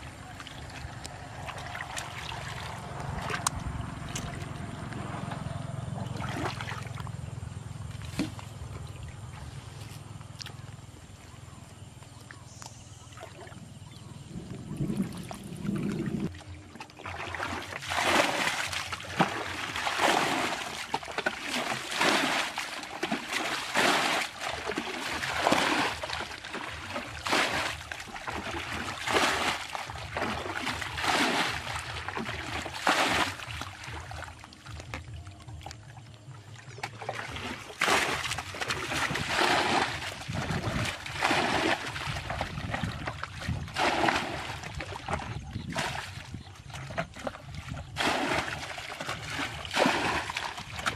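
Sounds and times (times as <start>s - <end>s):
water splashing and pouring: 0.0s - 7.2s, 14.4s - 50.9s.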